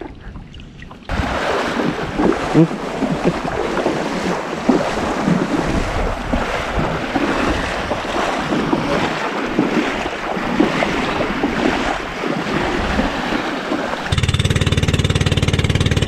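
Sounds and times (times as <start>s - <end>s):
wind noise on microphone: 0.0s - 13.4s
sea water sloshing and splashing: 0.0s - 15.0s.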